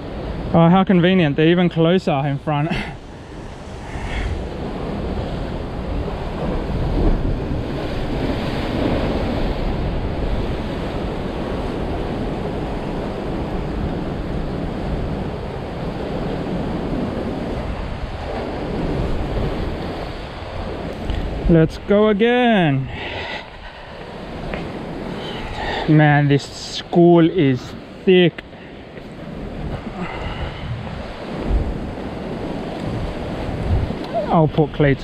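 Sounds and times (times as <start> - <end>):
wind rumbling on microphone: 0.0 - 35.0
surf breaking on rocks: 2.2 - 35.0.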